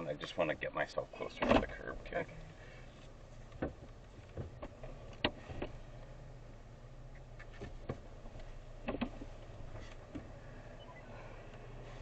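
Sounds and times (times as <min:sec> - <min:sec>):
car cabin hum: 0:00.0 - 0:12.0.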